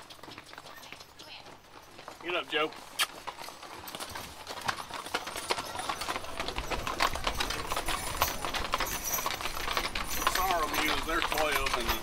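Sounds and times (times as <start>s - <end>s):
hooves clip-clopping on pavement: 0.0s - 12.0s.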